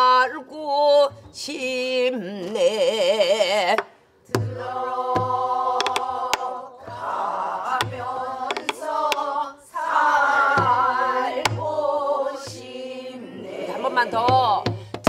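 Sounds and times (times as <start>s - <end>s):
group singing folk song: 0.0s - 15.0s.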